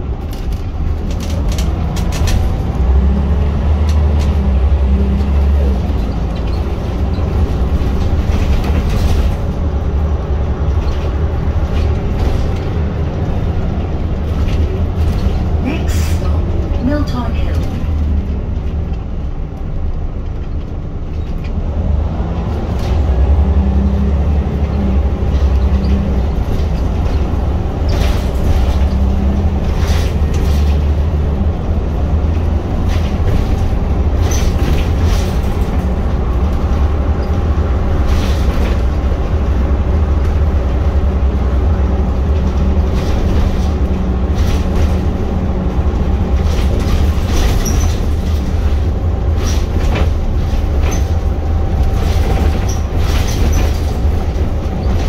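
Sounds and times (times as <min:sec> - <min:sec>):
bus body rattles and knocks: 0:00.0 - 0:55.0
bus diesel engine drone: 0:00.0 - 0:55.0.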